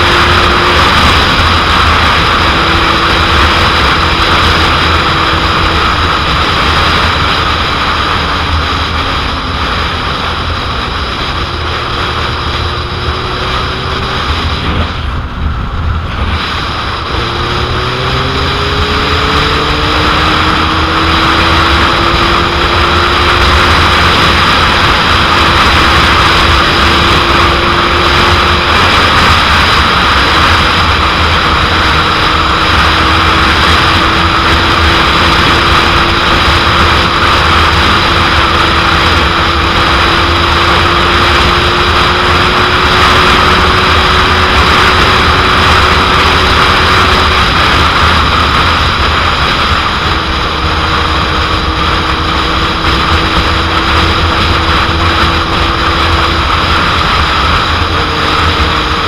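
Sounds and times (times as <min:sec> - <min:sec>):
motorcycle engine: 0:00.0 - 0:59.0
wind noise on microphone: 0:00.0 - 0:59.0.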